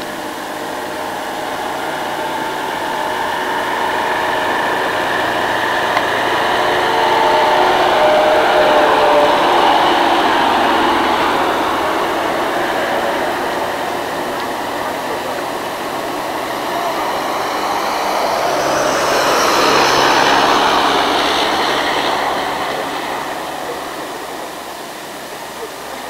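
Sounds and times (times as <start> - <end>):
bus engine running: 0.0 - 26.0
tyre and road noise: 0.0 - 26.0.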